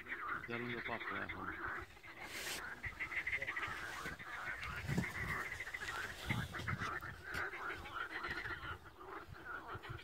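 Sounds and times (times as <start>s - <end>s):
chorus of animal calls: 0.0s - 10.0s.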